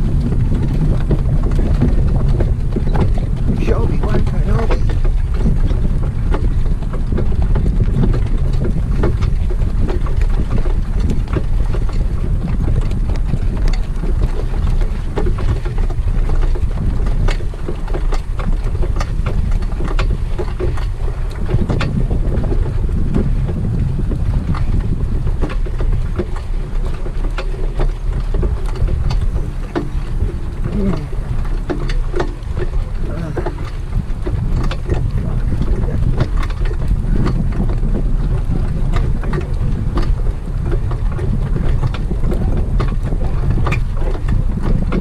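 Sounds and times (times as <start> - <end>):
heavy wind buffeting microphone: 0.0 - 45.0
irregular clicks and knocks: 0.1 - 23.4, 24.1 - 45.0.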